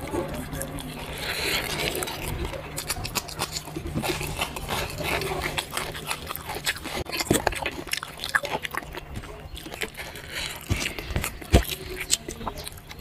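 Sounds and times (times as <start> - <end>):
chewing and mouth smacking: 0.0 - 13.0.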